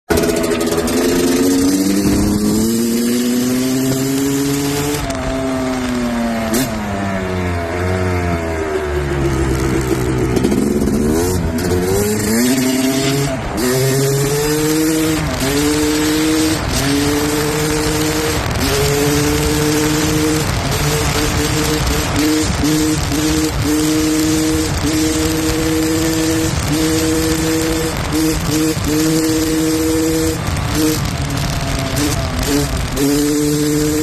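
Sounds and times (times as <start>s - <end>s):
engine revving: 0.1s - 34.0s.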